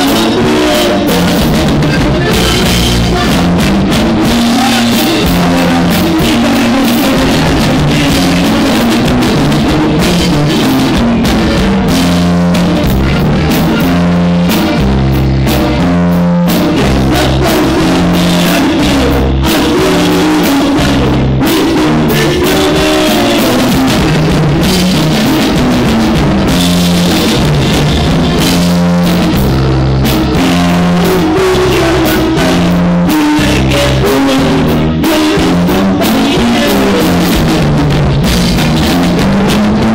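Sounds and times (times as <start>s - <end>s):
band playing: 0.0s - 39.9s
bass line: 0.0s - 39.9s
drum kit beat: 0.0s - 39.9s
guitar: 0.0s - 39.9s.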